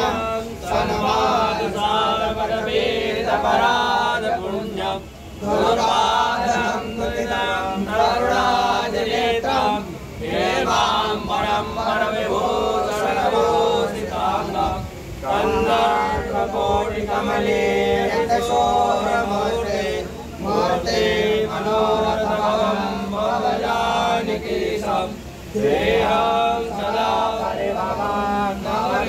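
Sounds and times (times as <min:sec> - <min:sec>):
men chanting a hymn: 0:00.0 - 0:29.0.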